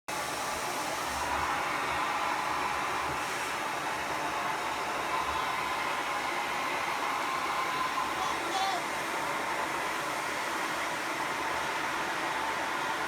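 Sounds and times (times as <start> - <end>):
vacuum cleaner running: 0.1 - 13.0.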